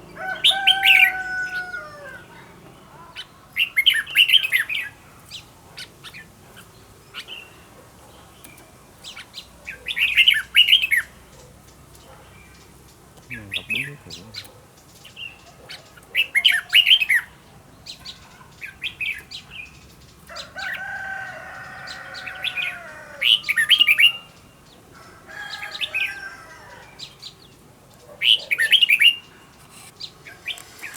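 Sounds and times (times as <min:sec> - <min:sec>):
soft bird calls: 0:00.0 - 0:30.9.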